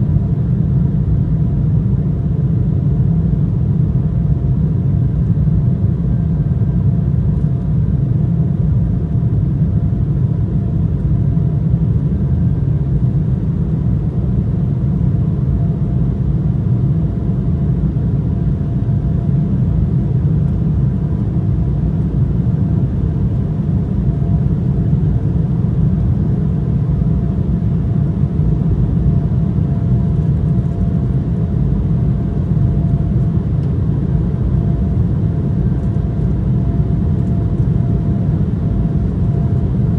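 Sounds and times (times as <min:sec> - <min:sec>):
airliner cabin rumble: 0:03.9 - 0:39.9.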